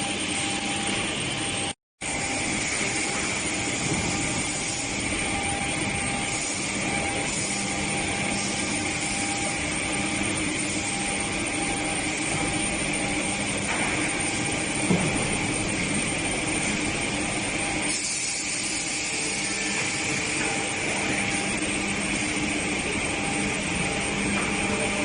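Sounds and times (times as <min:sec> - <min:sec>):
woodworking machinery hissing and whining: 0:00.0 - 0:25.0.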